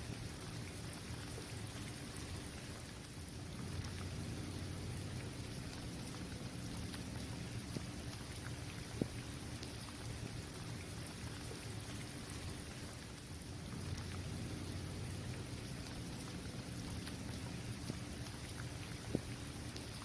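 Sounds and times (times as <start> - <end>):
rain falling on a court: 0.0 - 20.0.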